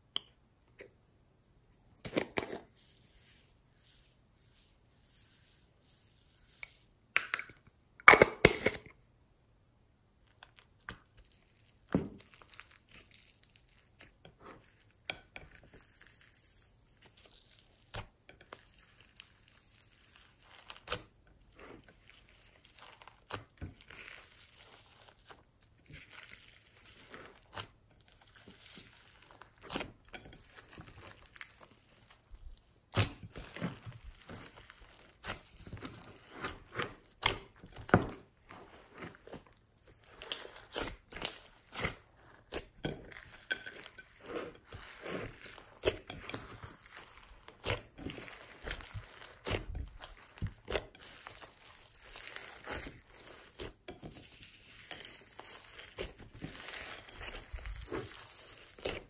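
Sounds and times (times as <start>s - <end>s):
slime crackling and popping: 10.3s - 59.0s.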